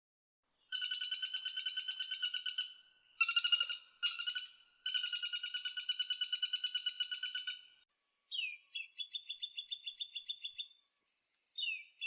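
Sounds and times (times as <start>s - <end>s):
woodpecker calling: 0.7s - 10.8s, 11.6s - 12.0s.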